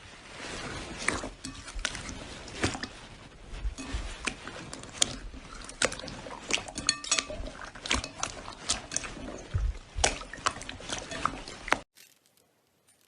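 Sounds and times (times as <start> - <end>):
slime squishing with wet pops: 0.9 - 11.9.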